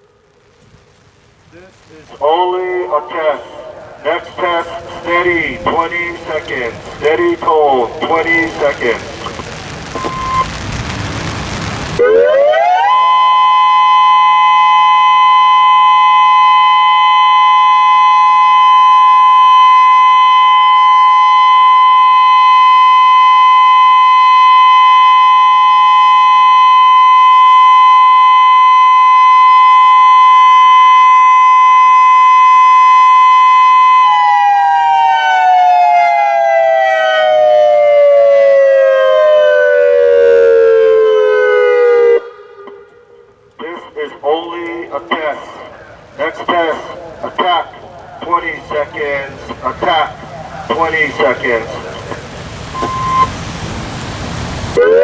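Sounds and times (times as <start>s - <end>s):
warning siren: 2.1s - 55.0s.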